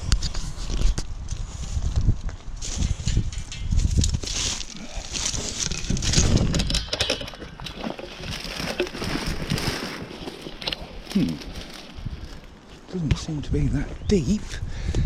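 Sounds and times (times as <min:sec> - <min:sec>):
undergrowth rustling and crackling: 0:00.0 - 0:14.0.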